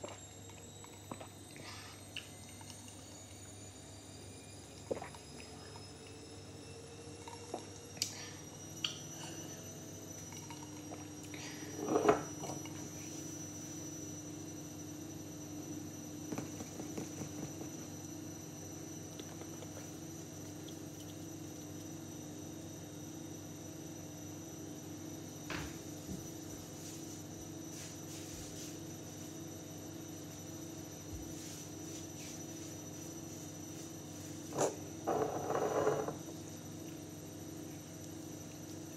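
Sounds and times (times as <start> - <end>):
electrical hum with high whine: 0.0 - 38.9.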